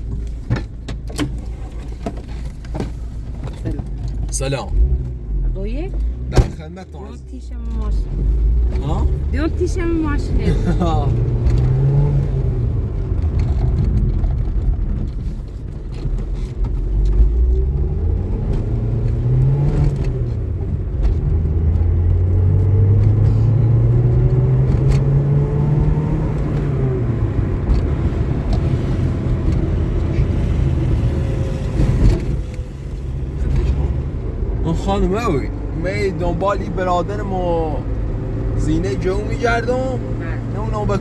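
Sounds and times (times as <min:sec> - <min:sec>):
car engine running: 0:00.0 - 0:41.0.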